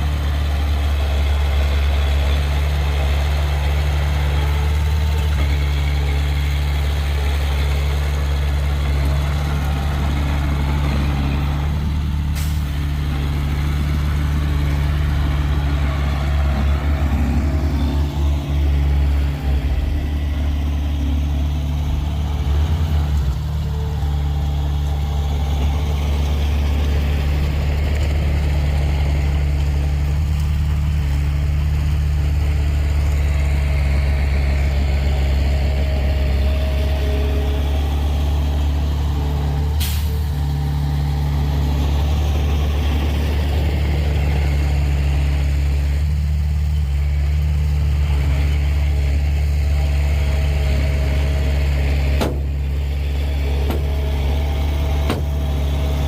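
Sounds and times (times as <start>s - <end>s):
low engine drone: 0.0s - 56.0s.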